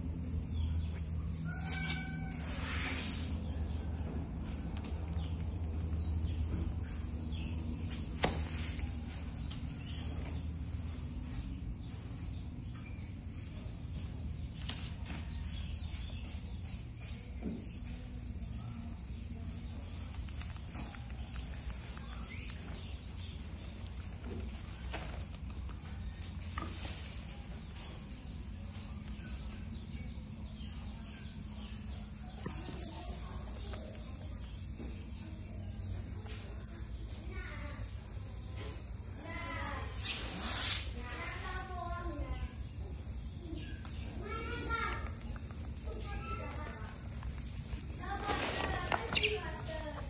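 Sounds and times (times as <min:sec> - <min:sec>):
cricket trilling: 0:00.0 - 0:50.0.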